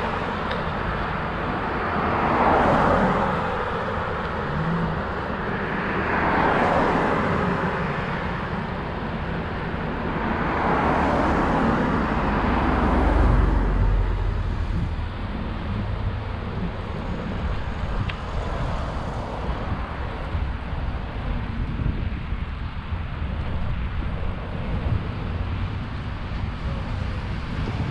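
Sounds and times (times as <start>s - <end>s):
road traffic noise: 0.0s - 27.9s
vehicles passing: 0.0s - 27.9s
wind rumbling on microphone: 0.0s - 27.9s.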